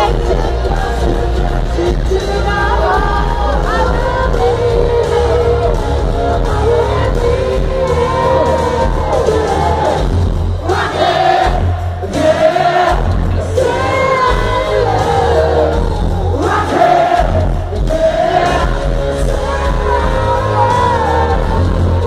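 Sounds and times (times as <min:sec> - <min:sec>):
amplified band music: 0:00.0 - 0:22.0
lead singer singing: 0:00.0 - 0:22.0.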